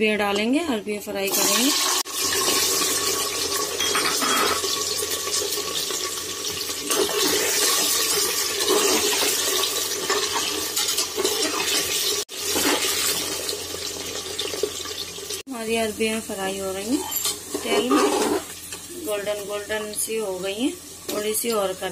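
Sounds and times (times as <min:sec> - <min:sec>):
oil sizzling and bubbling: 0:01.2 - 0:21.9.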